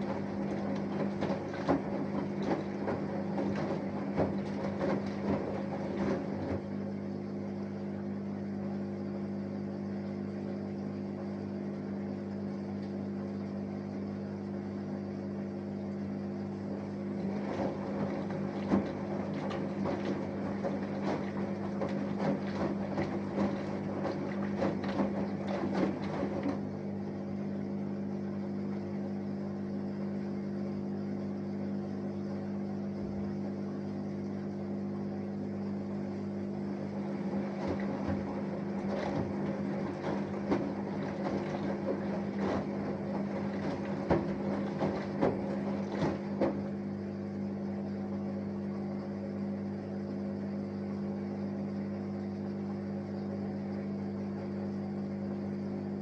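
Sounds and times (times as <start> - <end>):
washing machine motor hum: 0.0 - 56.0
water and laundry sloshing in drum: 0.0 - 56.0.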